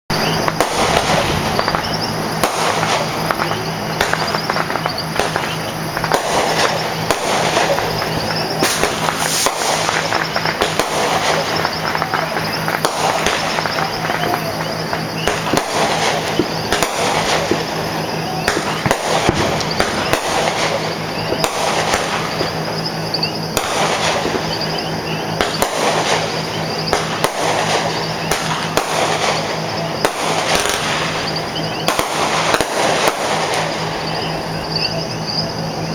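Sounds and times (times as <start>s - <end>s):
fireworks and firecrackers popping: 0.1s - 35.9s.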